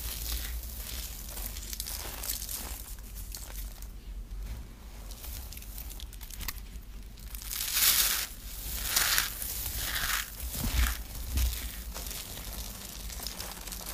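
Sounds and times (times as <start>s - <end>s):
hands crumbling dry material: 0.0s - 4.0s, 5.0s - 13.9s.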